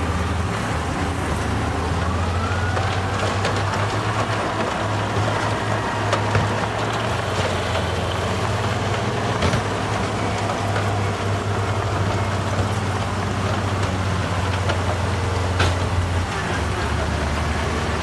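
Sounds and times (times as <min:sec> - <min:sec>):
heavy diesel engine humming: 0:00.0 - 0:18.0.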